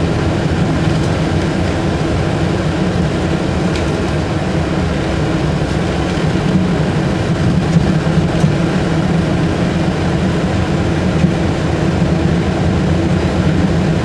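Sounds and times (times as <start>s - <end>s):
road noise: 0.0s - 14.0s
trolleybus interior hum: 0.0s - 14.0s.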